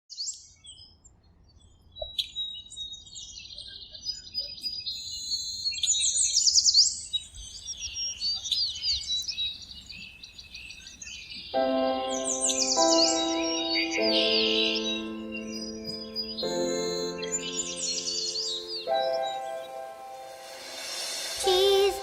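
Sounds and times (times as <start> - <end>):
songbirds singing and chirping: 0.1 - 22.0.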